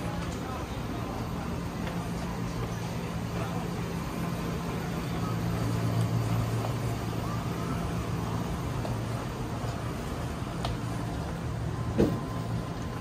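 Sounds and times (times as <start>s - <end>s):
faint street ambience: 0.0s - 13.0s
low mechanical hum: 0.0s - 13.0s.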